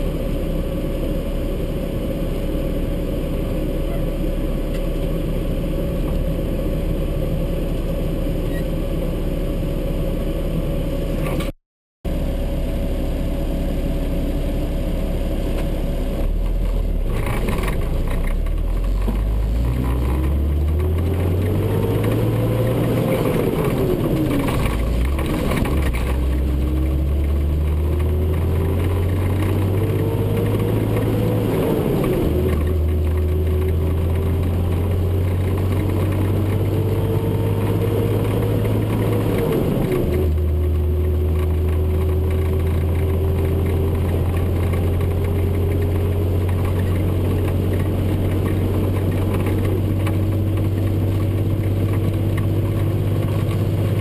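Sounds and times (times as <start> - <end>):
diesel truck engine accelerating: 0.0 - 54.0.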